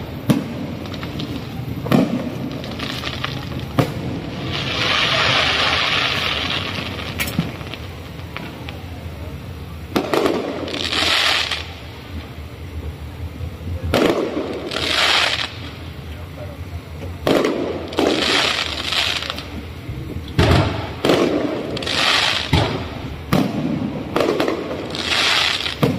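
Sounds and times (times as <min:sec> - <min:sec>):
firework bangs: 0:00.0 - 0:09.1, 0:09.8 - 0:12.6, 0:13.8 - 0:16.1, 0:17.0 - 0:25.9
fireworks crackling: 0:00.0 - 0:25.9.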